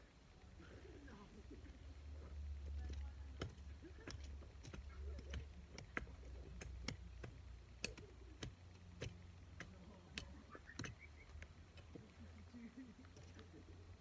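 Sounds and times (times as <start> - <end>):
low steady rumble: 0.0 - 14.0
hand tools digging in soil: 2.2 - 14.0.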